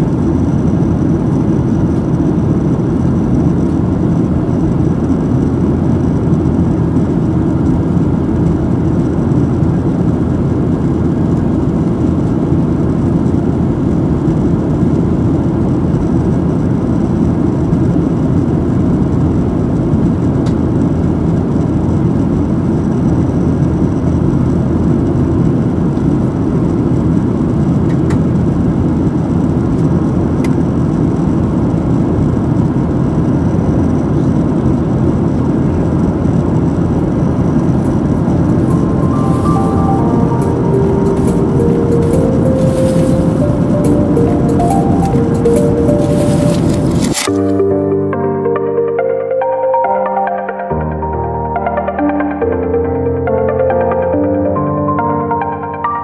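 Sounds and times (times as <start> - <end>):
airflow rush in cabin: 0.0 - 47.4
jet engine drone: 0.0 - 56.0.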